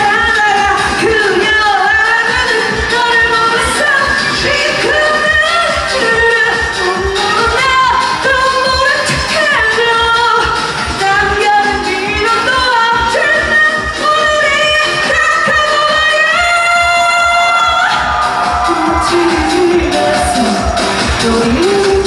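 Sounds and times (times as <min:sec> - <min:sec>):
dance-pop backing track: 0:00.0 - 0:22.0
woman singing pop: 0:00.0 - 0:22.0.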